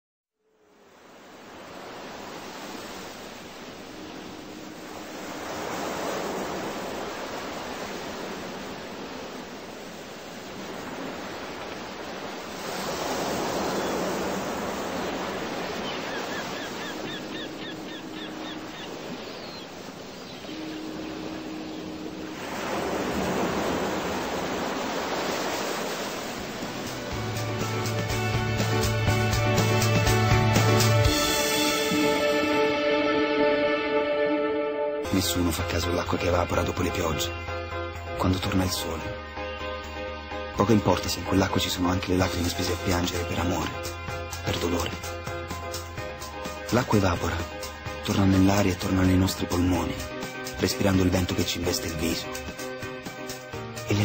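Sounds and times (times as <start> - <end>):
waves breaking: 0.6 - 54.0.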